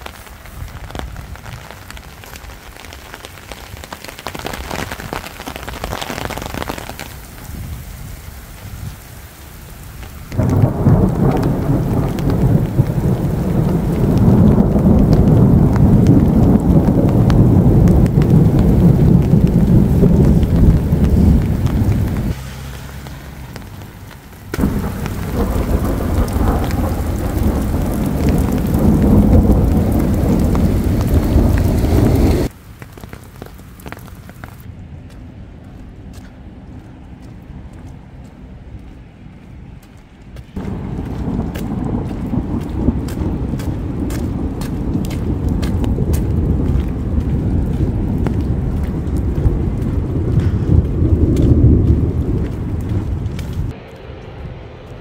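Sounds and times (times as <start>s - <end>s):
thunder rumbling: 0.0s - 32.5s, 40.6s - 55.0s
heavy rain pouring: 0.0s - 34.7s, 40.5s - 55.0s.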